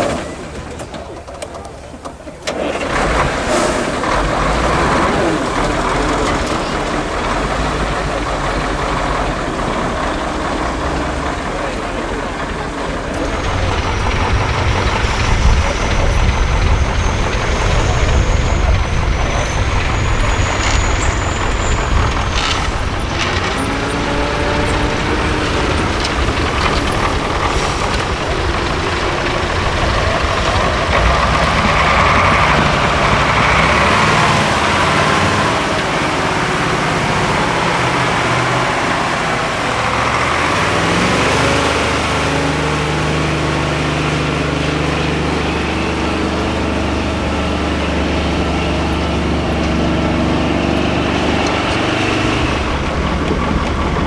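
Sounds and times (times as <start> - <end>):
heavy diesel truck engine rumbling: 0.0 - 54.0.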